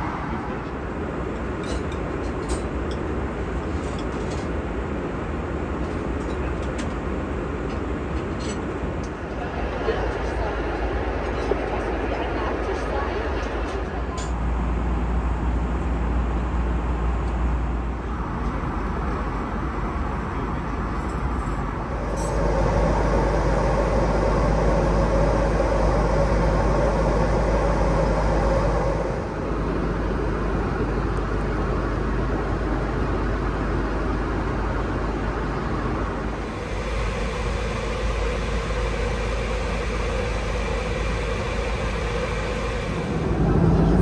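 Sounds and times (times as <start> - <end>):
airplane cabin roar in flight: 0.0 - 44.0.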